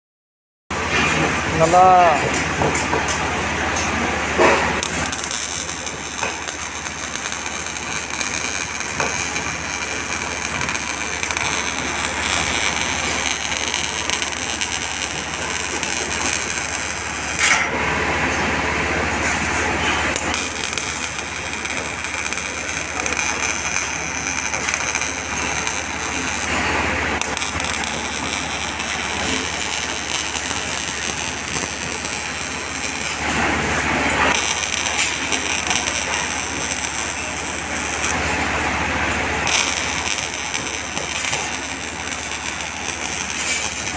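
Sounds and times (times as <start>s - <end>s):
low electrical hum: 0.8s - 43.9s
welding arc crackling and sizzling: 0.8s - 43.9s.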